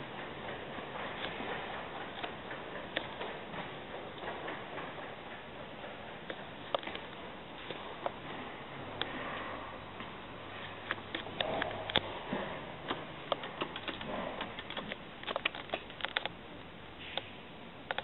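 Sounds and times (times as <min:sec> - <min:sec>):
small irregular clicks and knocks: 0:00.0 - 0:16.4, 0:17.0 - 0:18.0
elevator machinery humming: 0:00.0 - 0:18.0.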